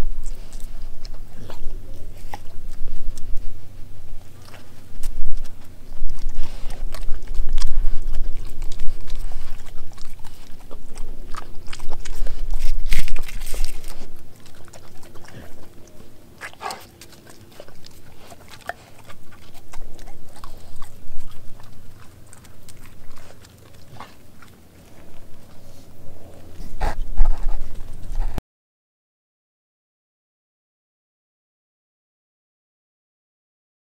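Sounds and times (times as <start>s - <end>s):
deep rumble: 0.0s - 28.4s
dog chewing with mouth clicks: 0.0s - 28.4s.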